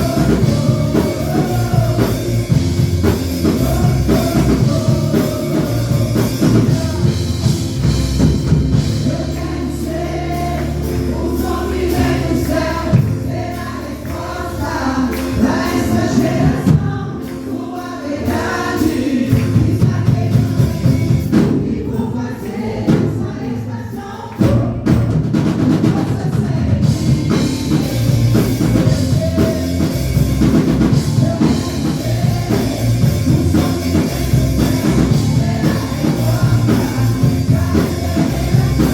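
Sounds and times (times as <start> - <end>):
drum kit playing: 0.0 - 38.9
gospel song with vocals: 0.0 - 38.9.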